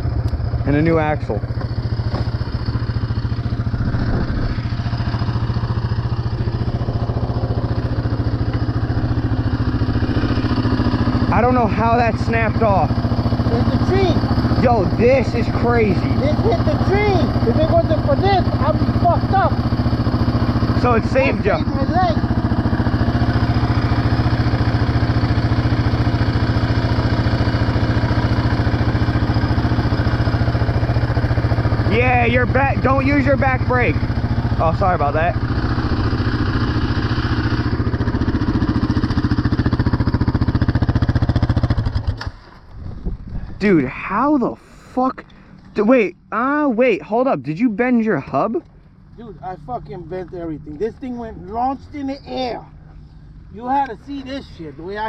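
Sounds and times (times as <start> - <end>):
small vehicle engine idling: 0.0 - 55.0.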